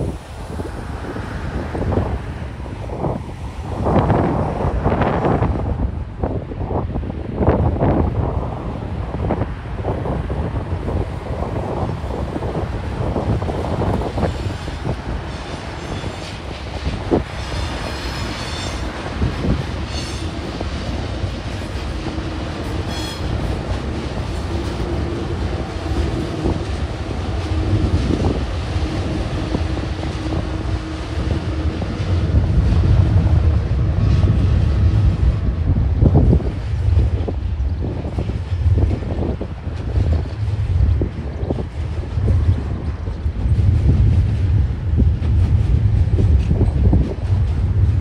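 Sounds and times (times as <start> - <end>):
diesel locomotive engines rumbling: 0.0 - 48.0.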